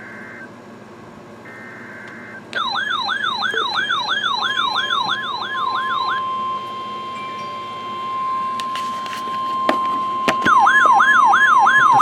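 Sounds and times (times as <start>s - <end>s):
steady single-pitch alarm tone: 0.0s - 0.5s, 1.4s - 12.0s
sweeping siren-like alarm tone: 1.5s - 12.0s.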